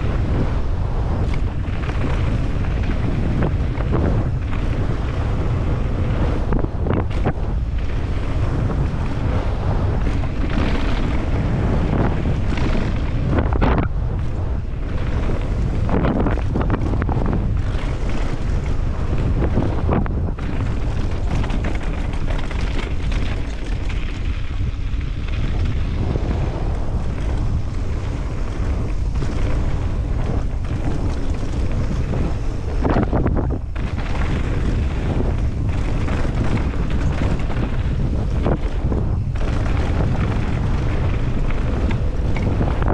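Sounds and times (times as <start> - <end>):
bike rattling and tyre noise: 0.0 - 42.9
wind buffeting microphone: 0.0 - 42.9.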